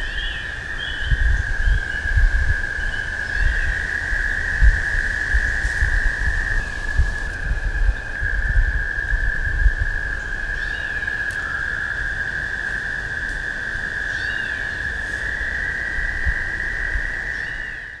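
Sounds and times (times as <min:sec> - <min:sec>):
frogs trilling: 0:00.0 - 0:18.0.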